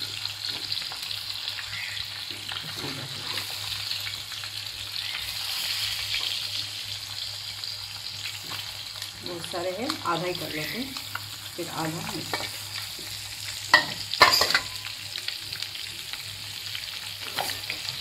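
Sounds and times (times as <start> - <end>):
eggs sizzling in oil: 0.0 - 18.0.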